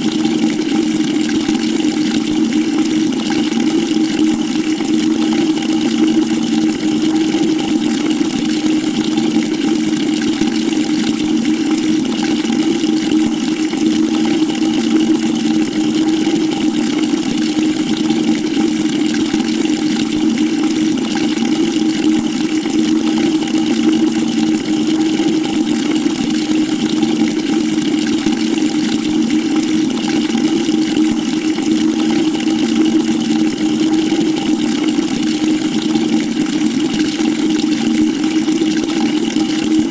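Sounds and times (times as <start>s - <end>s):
tap water splashing into bucket: 0.0s - 39.9s.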